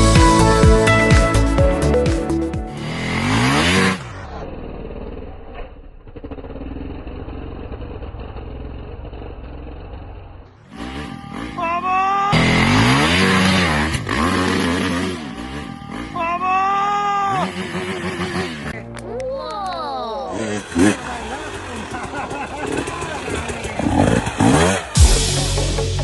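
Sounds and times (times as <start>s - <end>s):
dirt bike engines revving: 2.7s - 5.5s, 6.2s - 25.6s.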